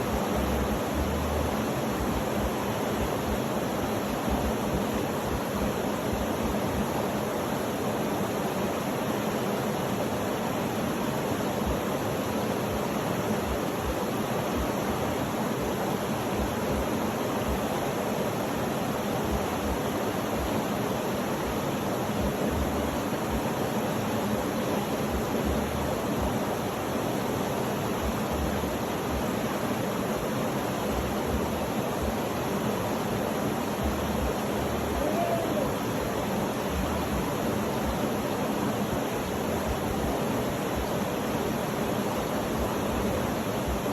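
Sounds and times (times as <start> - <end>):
steady rushing noise: 0.0 - 43.9.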